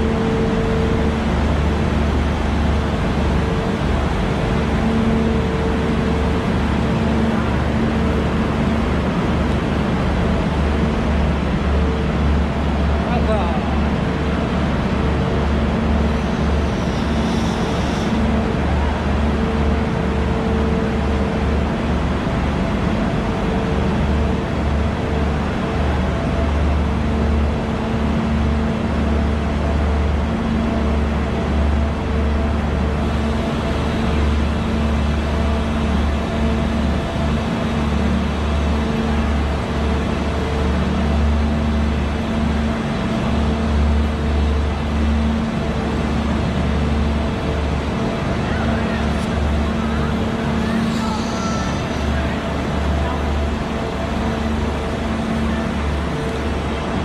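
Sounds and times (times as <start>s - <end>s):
diesel engine idling drone: 0.0s - 57.0s.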